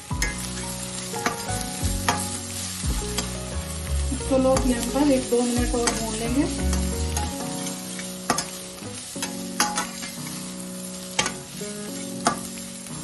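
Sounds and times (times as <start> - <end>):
light sizzle: 0.0 - 13.0.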